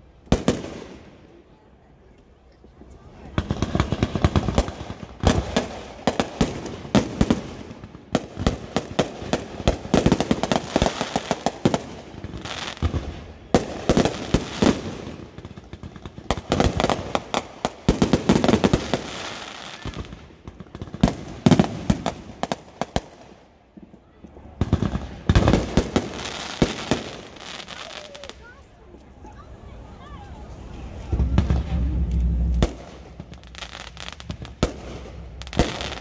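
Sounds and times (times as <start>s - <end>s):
firecrackers banging and popping: 3.3s - 28.6s, 30.5s - 36.0s.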